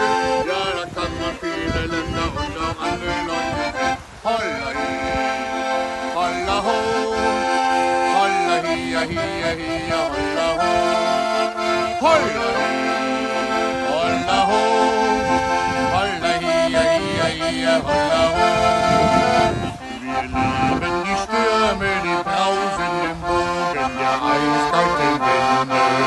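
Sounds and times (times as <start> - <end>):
solo accordion melody: 0.0 - 26.0.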